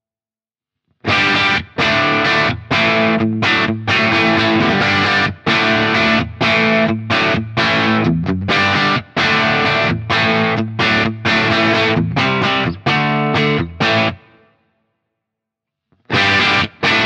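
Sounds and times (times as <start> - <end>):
overdriven electric guitar chords: 1.0 - 14.6, 16.1 - 17.0.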